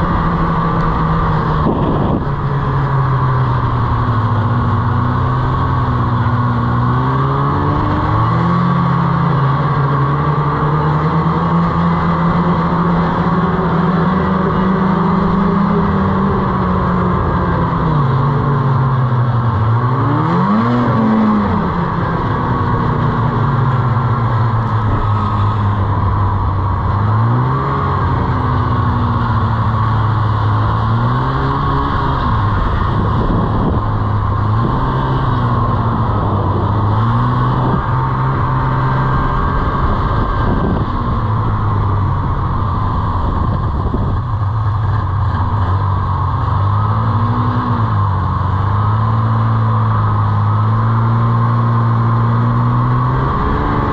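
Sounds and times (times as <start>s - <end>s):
snowmobile engine running: 0.0s - 53.9s.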